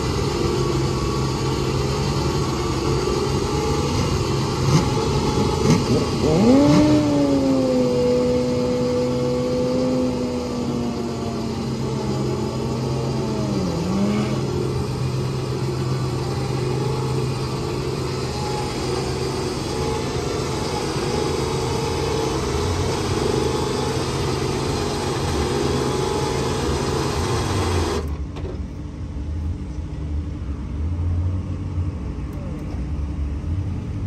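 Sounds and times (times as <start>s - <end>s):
electric winch running under load: 0.0s - 28.2s.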